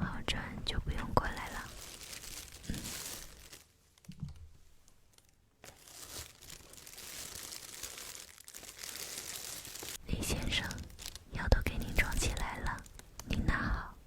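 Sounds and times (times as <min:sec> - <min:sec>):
material crinkling and rustling: 0:01.0 - 0:13.4.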